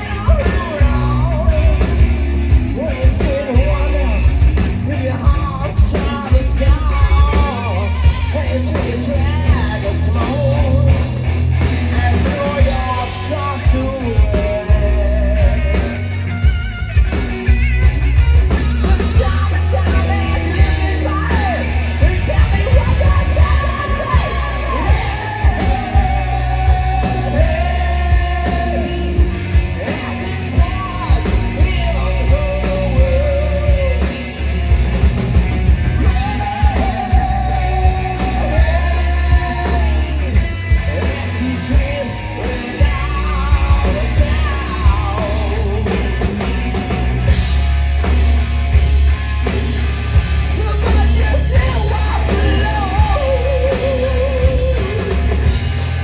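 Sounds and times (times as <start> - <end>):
lead vocal singing: 0.0 - 16.4, 18.6 - 47.4, 50.4 - 56.0
hard rock band playing live: 0.0 - 56.0.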